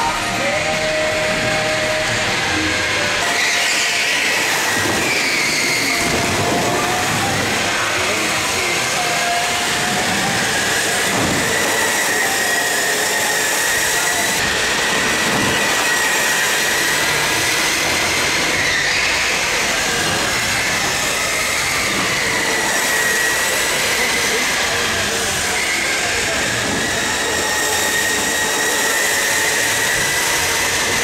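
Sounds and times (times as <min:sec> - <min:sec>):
go-kart motor whine: 0:00.0 - 0:31.0
steady noisy rush: 0:00.0 - 0:31.0.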